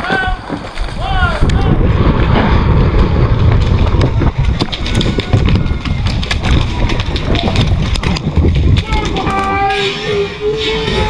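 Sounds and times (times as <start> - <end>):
heavy microphone rumble: 0.0 - 11.0
running footsteps: 0.0 - 11.0.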